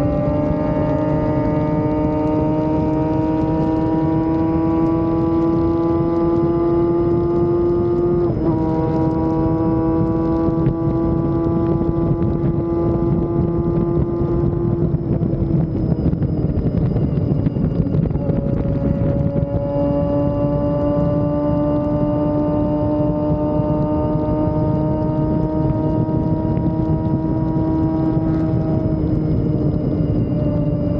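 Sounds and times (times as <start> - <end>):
motorcycle engine at high revs: 0.0 - 30.9
wind rush on microphone: 0.0 - 30.9.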